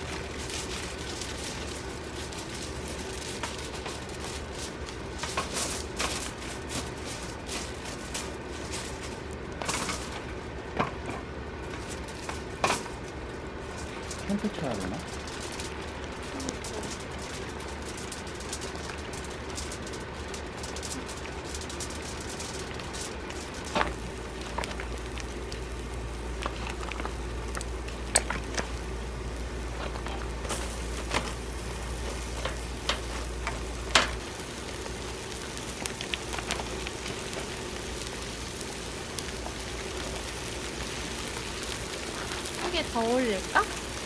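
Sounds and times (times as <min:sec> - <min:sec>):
rain pattering: 0:00.0 - 0:44.0
sharp pops and crackles: 0:00.0 - 0:44.0.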